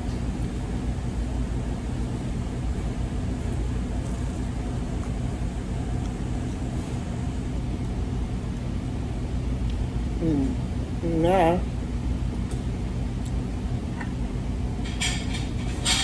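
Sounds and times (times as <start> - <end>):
restaurant background rumble: 0.0 - 16.0.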